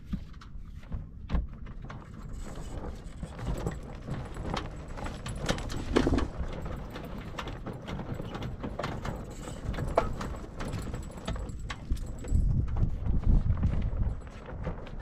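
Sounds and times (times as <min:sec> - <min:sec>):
reefing gear clicks and knocks: 0:00.0 - 0:15.0.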